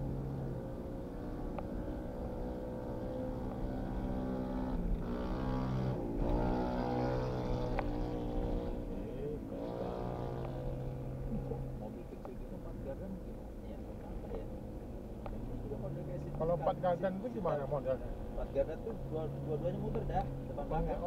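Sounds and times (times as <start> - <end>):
car engine accelerating: 0.0 - 21.0
road noise inside car: 0.0 - 21.0.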